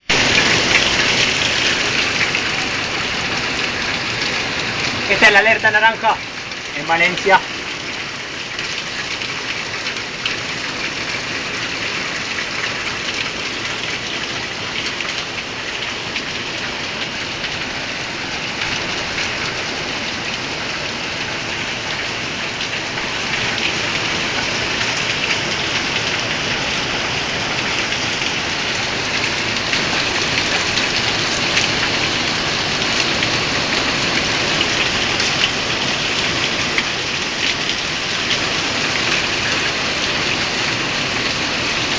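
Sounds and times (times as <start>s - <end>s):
heavy rain splashing: 0.0s - 41.9s.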